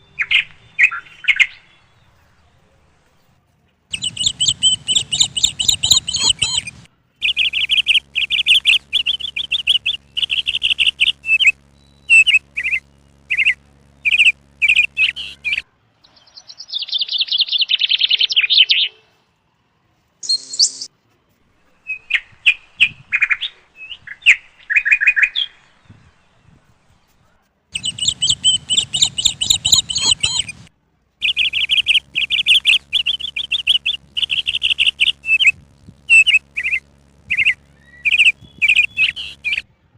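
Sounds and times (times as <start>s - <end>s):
small birds chirping: 3.2s - 18.9s, 20.2s - 20.9s, 21.9s - 39.6s.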